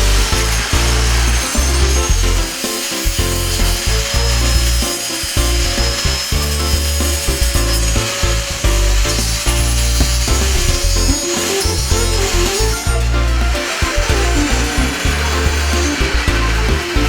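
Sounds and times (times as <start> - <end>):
angle grinder rasping: 0.0 - 17.0
background music with bass: 0.0 - 17.0.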